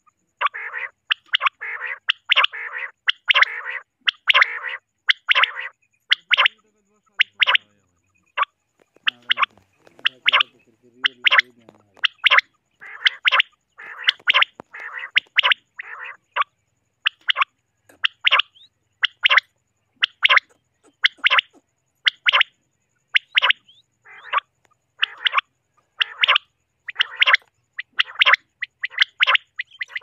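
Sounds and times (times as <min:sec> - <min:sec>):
harsh rasping calls: 0:00.0 - 0:30.0
quail calling sharp notes: 0:00.0 - 0:30.0.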